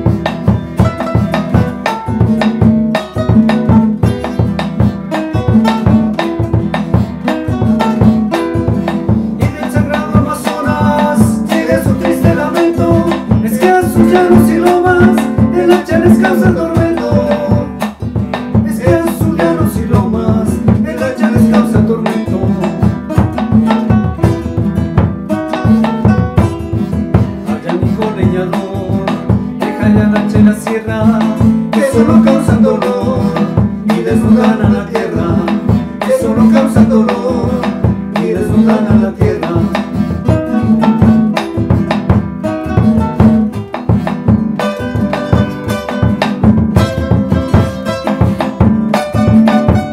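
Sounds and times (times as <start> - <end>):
acoustic guitars playing: 0.0 - 49.9.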